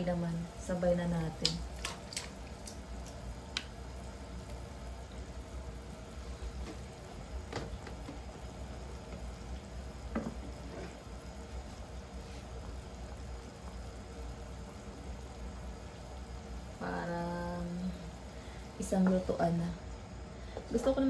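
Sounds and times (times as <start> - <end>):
liquid simmering in a pan: 0.0 - 21.0.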